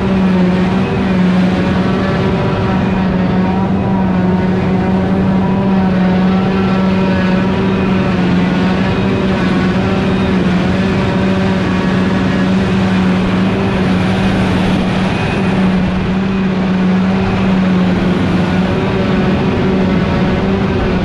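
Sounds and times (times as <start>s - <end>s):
heavy farm machinery droning: 0.0s - 21.0s.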